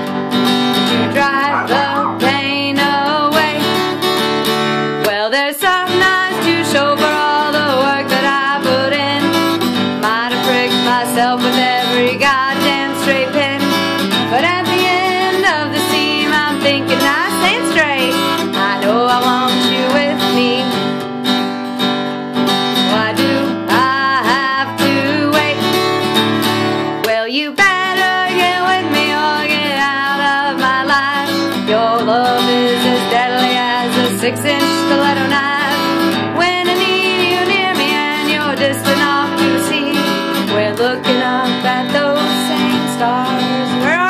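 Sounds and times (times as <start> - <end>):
woman singing: 0.0 - 21.0, 22.6 - 44.0
acoustic guitar strumming: 0.0 - 44.0.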